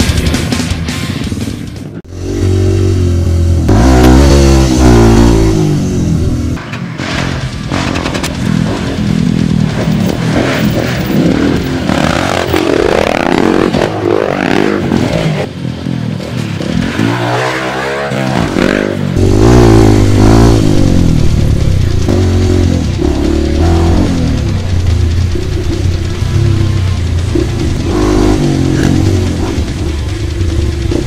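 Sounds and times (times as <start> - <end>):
dirt bike engines revving: 1.8 - 31.0.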